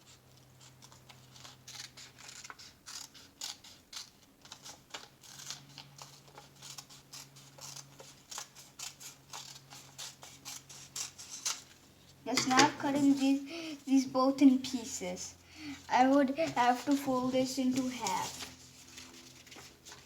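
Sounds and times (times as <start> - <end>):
scissors cutting paper: 0.1 - 13.7, 15.8 - 20.0.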